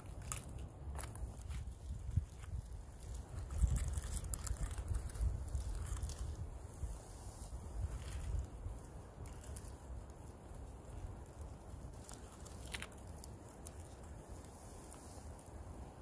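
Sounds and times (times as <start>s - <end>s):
light clicks and crackles: 0.0s - 6.5s, 7.9s - 15.7s
low rumble of handling: 0.0s - 16.0s.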